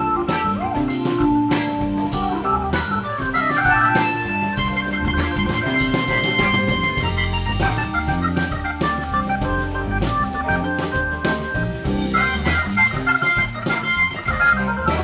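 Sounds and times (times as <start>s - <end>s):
drum kit: 0.0s - 15.0s
electric bass: 0.0s - 15.0s
organ playing chords: 0.0s - 15.0s.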